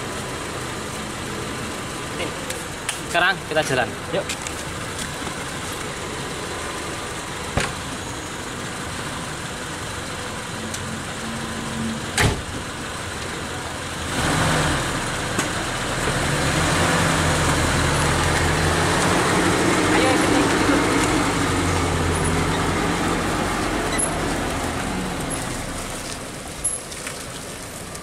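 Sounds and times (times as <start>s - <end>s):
petrol engine idling: 0.0s - 14.1s, 17.2s - 28.0s.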